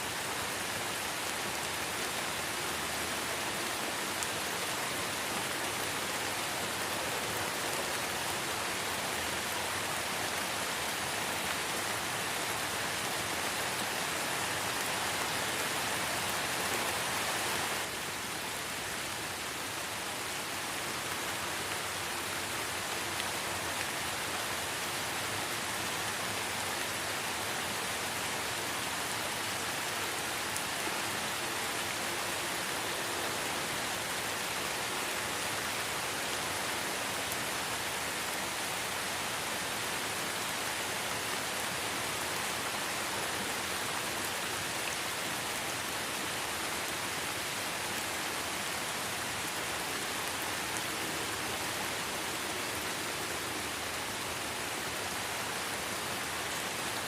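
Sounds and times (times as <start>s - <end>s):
light rain in a forest: 0.0s - 57.0s.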